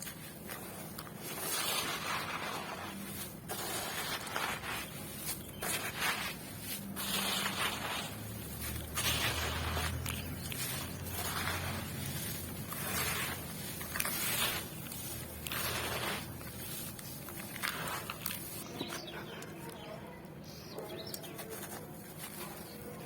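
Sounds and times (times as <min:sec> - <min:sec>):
charcoal crunching by hand: 0:00.0 - 0:19.8, 0:21.0 - 0:23.0.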